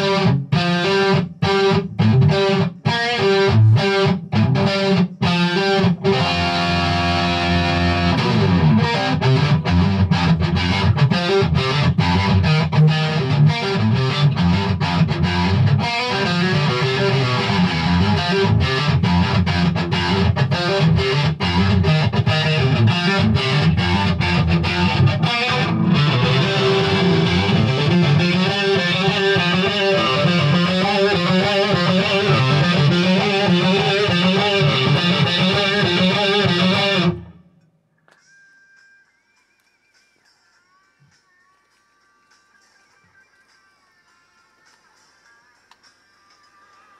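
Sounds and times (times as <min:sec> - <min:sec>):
distorted electric guitar lead: 0:00.0 - 0:37.6
backing track music: 0:00.0 - 0:46.9.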